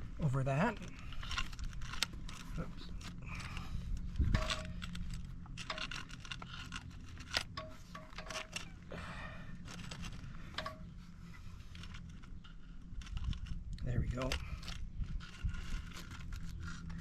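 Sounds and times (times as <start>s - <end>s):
grease gun clicking and rattling: 0.6s - 8.9s, 9.5s - 17.0s.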